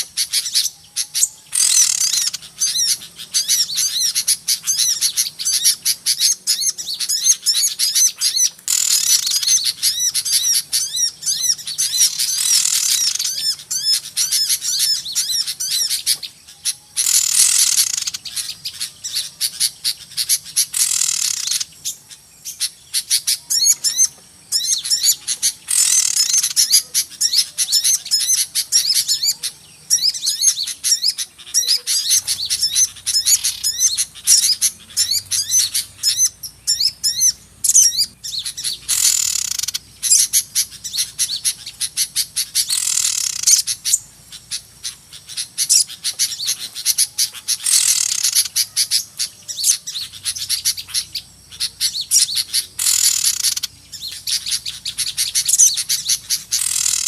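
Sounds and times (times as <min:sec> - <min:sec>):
harsh bird chattering: 0:00.0 - 0:57.0
small birds chirping and twittering: 0:00.0 - 0:57.0.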